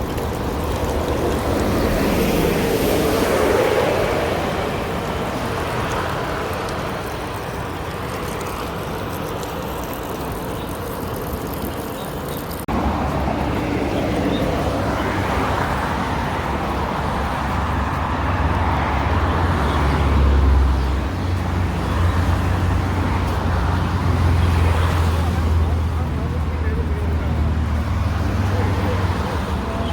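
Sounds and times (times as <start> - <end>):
passing traffic: 0.0 - 29.9.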